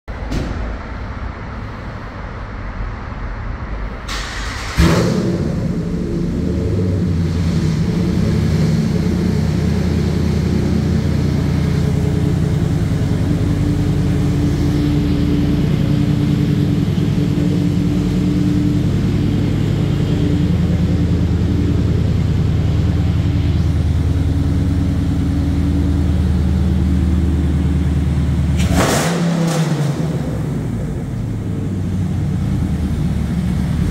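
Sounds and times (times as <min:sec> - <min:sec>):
low rumble: 0:00.1 - 0:33.9
pickup engine starting and idling: 0:04.0 - 0:33.9.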